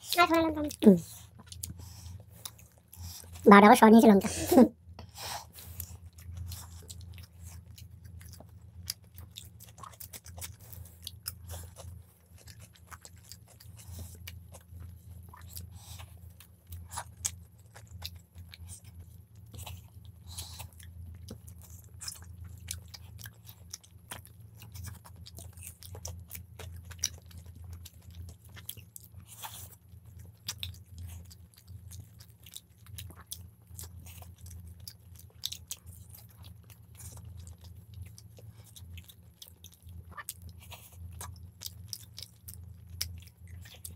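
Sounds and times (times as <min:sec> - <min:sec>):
people chewing: 0:00.0 - 0:43.9
steady low hum: 0:00.0 - 0:43.9.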